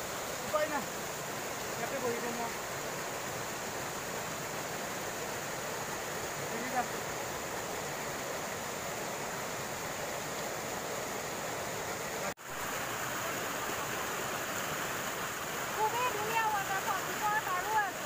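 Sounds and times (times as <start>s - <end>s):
waterfall and stream rushing: 0.0s - 18.0s.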